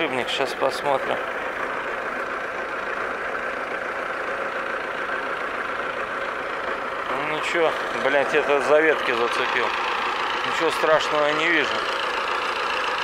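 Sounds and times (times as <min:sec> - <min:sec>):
mower engine idling: 0:00.0 - 0:13.0.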